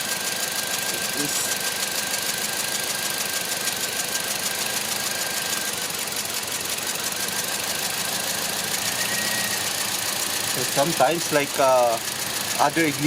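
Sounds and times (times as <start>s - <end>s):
car engine idling with ticking: 0.0s - 13.0s.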